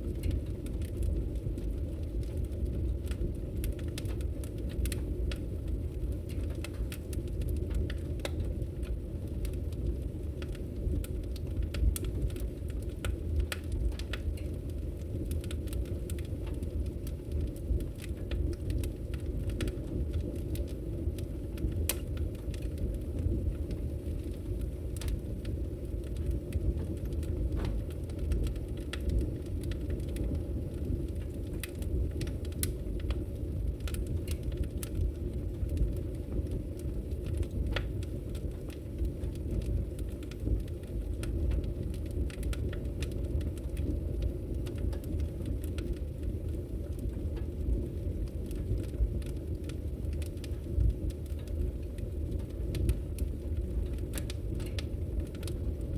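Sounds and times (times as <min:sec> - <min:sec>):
fire rumbling: 0:00.0 - 0:55.9
wood crackling and popping: 0:00.0 - 0:55.9.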